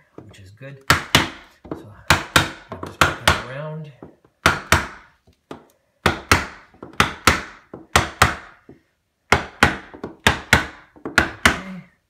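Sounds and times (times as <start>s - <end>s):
hammer knocking on wood: 0.9s - 11.7s.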